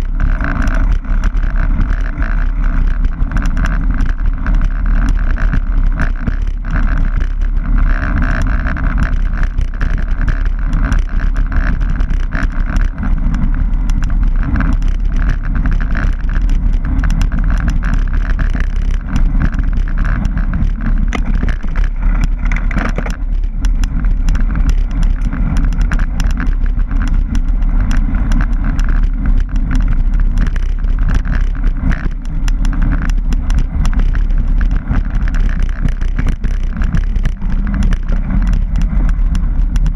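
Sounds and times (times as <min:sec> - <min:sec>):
bike rattling over bumps: 0:00.0 - 0:39.9
mountain bike rumbling on dirt: 0:00.0 - 0:39.9
wind buffeting microphone: 0:00.0 - 0:39.9.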